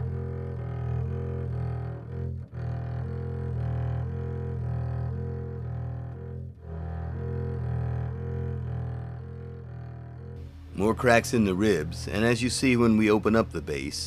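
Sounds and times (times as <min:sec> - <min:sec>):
bowed low string melody: 0:00.0 - 0:14.0.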